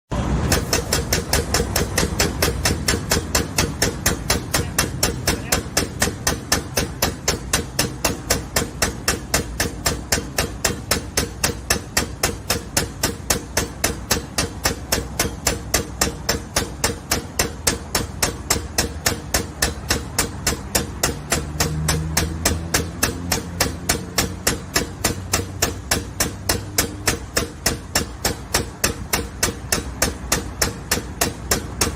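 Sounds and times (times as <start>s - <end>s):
rapid hammering: 0.2s - 31.9s.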